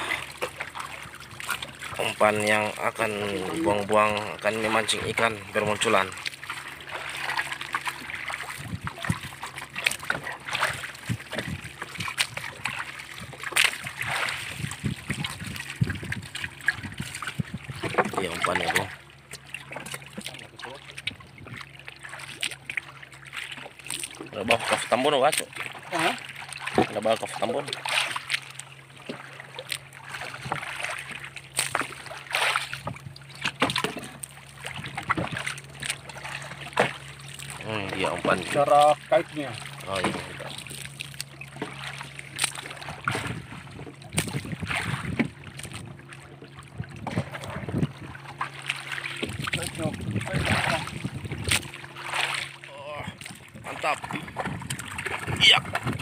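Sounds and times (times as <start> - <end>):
water splashing and sloshing: 0.0 - 56.0.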